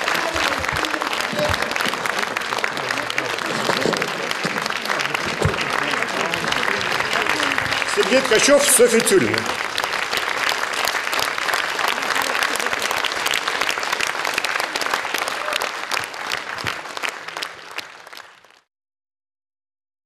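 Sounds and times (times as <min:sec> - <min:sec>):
audience applauding: 0:00.0 - 0:18.7.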